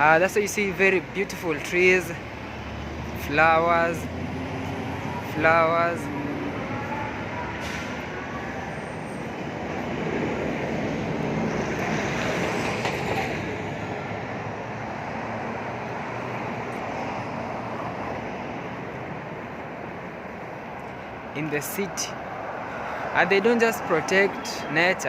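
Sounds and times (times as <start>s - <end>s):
passing vehicle rushing: 1.4s - 25.0s.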